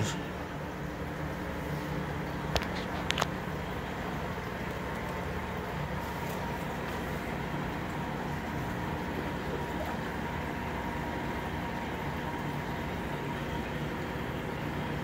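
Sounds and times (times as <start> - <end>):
aquarium filters humming: 0.0 - 15.0.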